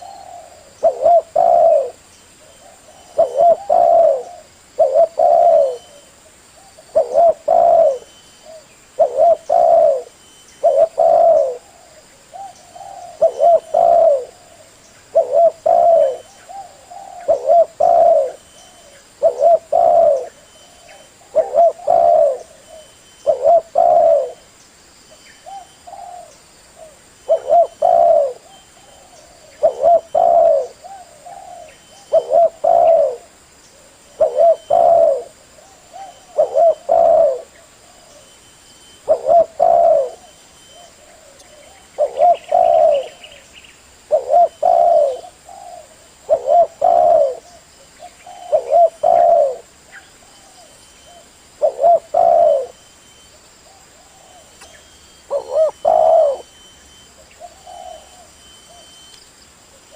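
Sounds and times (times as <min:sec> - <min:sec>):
dove cooing: 0:00.0 - 0:24.4, 0:25.4 - 0:43.4, 0:44.0 - 0:59.1.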